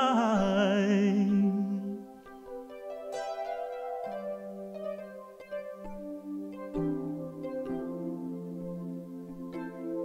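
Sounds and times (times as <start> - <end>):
soft instrumental worship music: 0.0 - 10.0.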